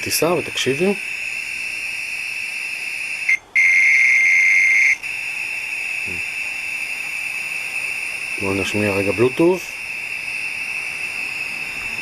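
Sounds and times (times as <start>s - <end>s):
louder lower meter tone: 0.0s - 12.0s
meter high whistle tone: 0.0s - 12.0s.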